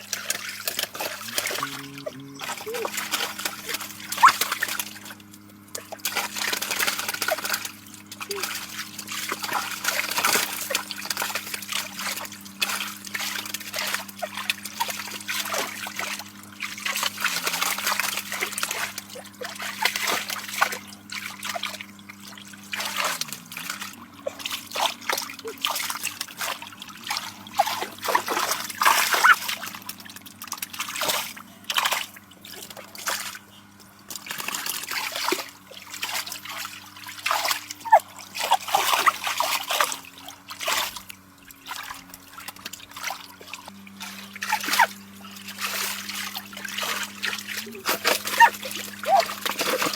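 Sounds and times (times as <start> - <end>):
shallow water splashing: 0.0 - 49.9
steady low hum: 0.0 - 49.9
water trickling: 0.0 - 49.9.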